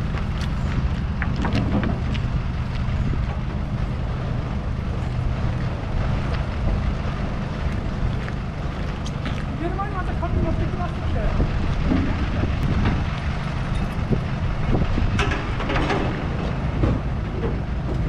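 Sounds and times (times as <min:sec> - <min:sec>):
truck engine idling: 0:00.0 - 0:18.0
wind noise on microphone: 0:00.0 - 0:18.0.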